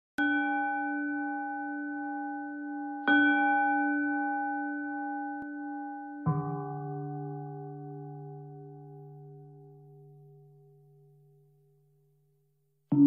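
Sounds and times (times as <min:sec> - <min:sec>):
bowl bell ringing: 0:00.2 - 0:10.8.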